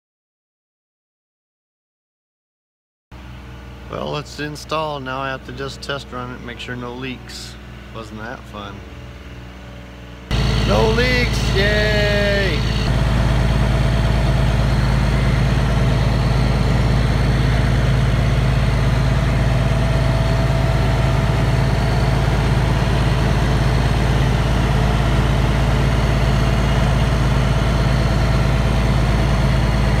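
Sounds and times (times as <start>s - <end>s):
crane engine idling: 3.2s - 30.0s.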